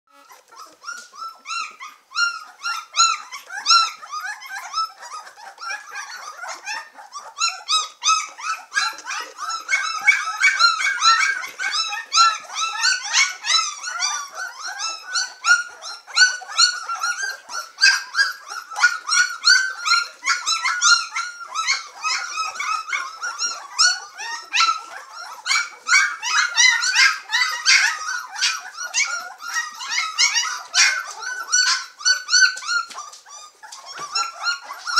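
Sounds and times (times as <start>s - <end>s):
puppies squealing and whining: 0.1s - 34.9s.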